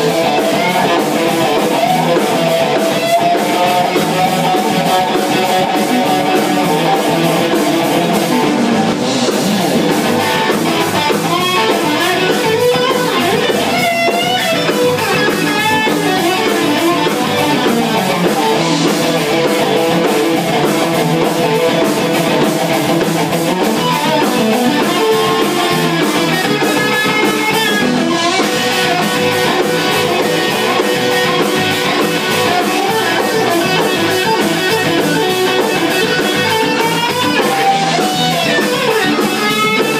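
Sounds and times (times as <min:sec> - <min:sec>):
band jamming: 0:00.0 - 0:39.9
drum kit: 0:00.0 - 0:39.9
guitars playing: 0:00.0 - 0:39.9.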